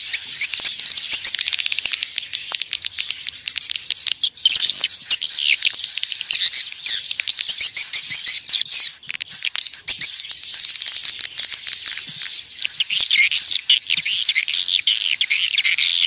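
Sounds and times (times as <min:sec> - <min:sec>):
swiftlets twittering: 0:00.0 - 0:16.0.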